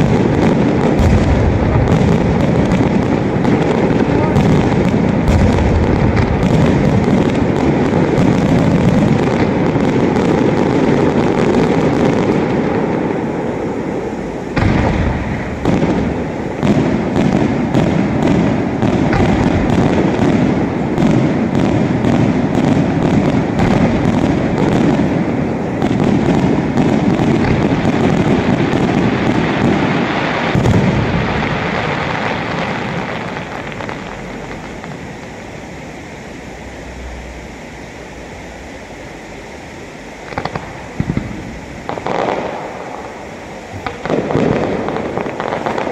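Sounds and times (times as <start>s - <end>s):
fireworks booming: 0.0s - 45.9s.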